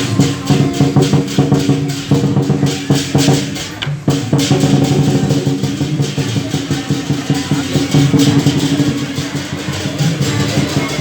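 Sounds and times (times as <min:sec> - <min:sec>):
cymbal clashes: 0:00.0 - 0:11.0
drum beats: 0:00.0 - 0:11.0.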